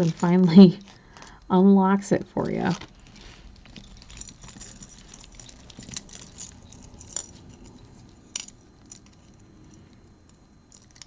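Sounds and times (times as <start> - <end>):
jewelry clinking and rustling: 0.0 - 1.5, 2.3 - 11.0.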